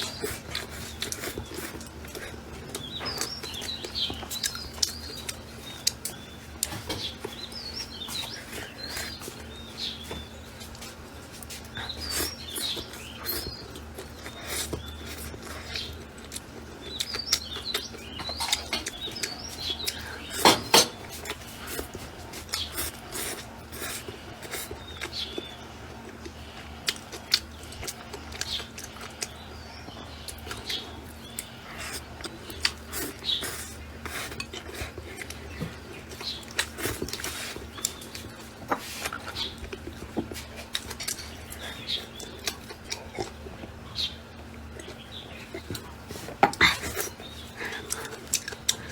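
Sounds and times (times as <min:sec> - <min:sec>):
person chewing food: 0:00.0 - 0:48.9
small birds chirping: 0:00.0 - 0:48.9
steady low hum: 0:00.0 - 0:48.9.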